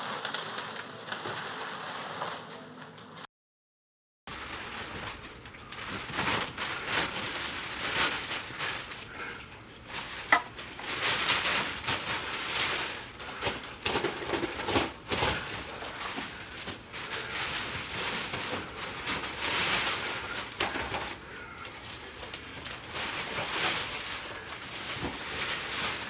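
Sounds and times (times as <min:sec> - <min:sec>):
plastic sack rustling and crinkling: 0:00.0 - 0:03.2, 0:04.3 - 0:26.0.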